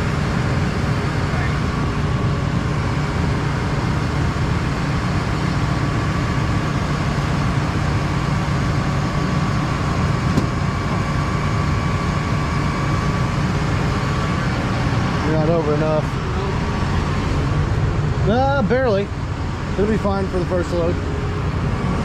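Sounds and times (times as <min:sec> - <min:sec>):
tractor engine drone: 0:00.0 - 0:22.0.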